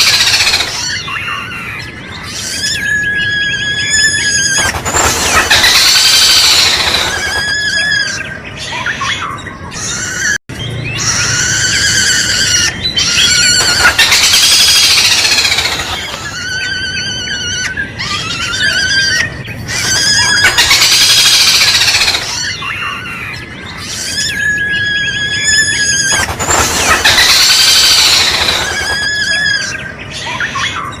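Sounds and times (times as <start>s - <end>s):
bird calling harshly with trills: 0.0s - 31.0s.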